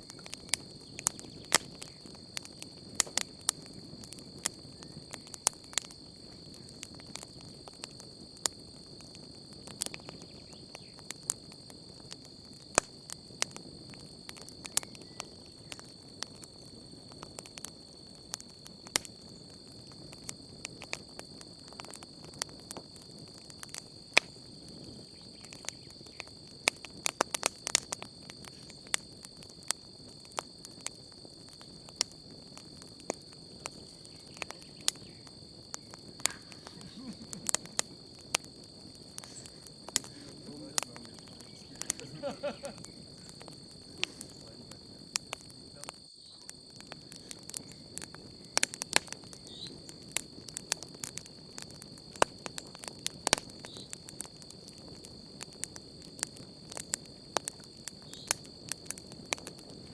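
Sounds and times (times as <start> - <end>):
campfire crackling and popping: 0.0 - 59.9
cricket trill: 0.0 - 59.9
low burning rush: 0.1 - 59.9.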